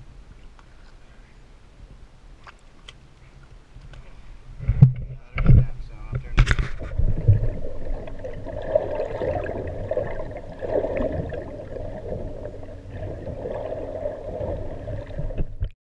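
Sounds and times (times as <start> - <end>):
boat engine low rumble: 0.0 - 15.7
water gurgling and splashing: 2.5 - 15.7.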